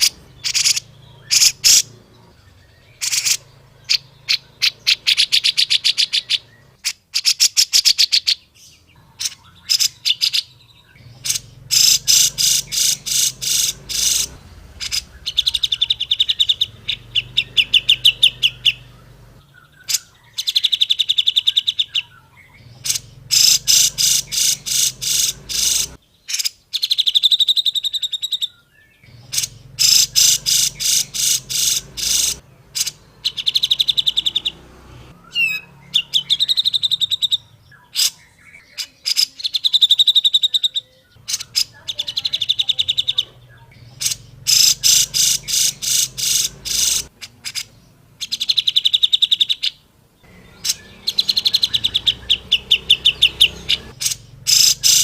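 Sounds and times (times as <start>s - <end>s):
bird singing with trills: 0.0s - 55.0s.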